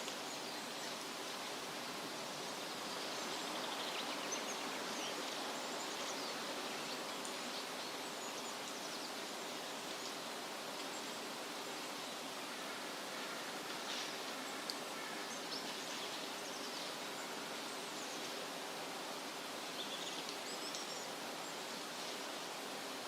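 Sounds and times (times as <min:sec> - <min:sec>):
wind rustling through trees: 0:00.0 - 0:23.0.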